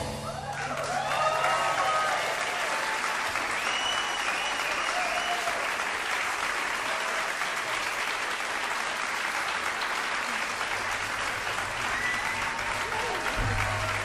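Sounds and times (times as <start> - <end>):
audience applauding: 0.2 - 14.0.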